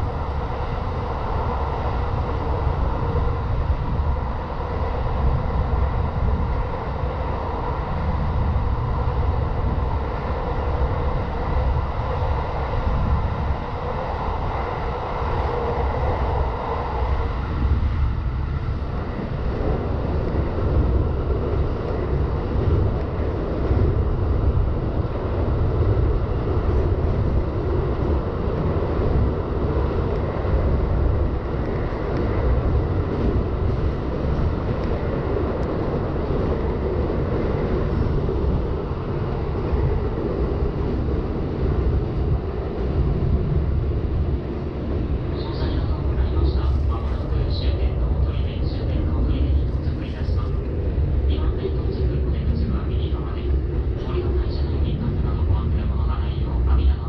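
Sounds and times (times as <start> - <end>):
rushing air: 0.0 - 56.7
train wheels rumbling on rails: 0.0 - 57.0.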